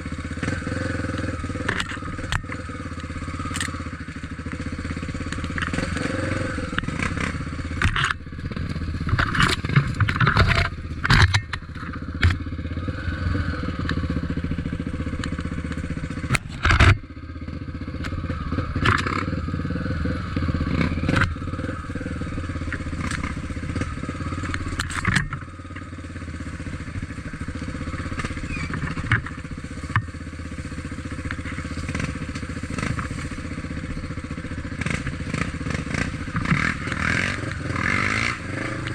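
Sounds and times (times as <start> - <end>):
knocks and clatter of bike: 0.0 - 38.9
motorcycle engine running: 0.0 - 38.9.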